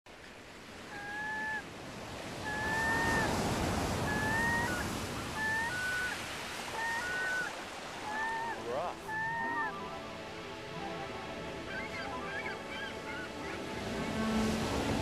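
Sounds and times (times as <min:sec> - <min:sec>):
waves washing: 0:00.1 - 0:15.0.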